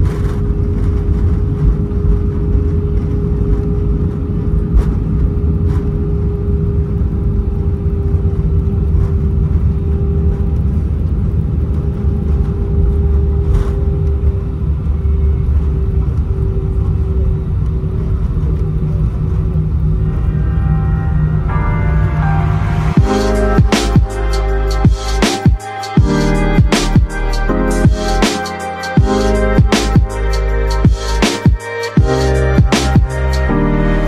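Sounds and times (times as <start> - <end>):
constant hum: 0.0 - 34.0.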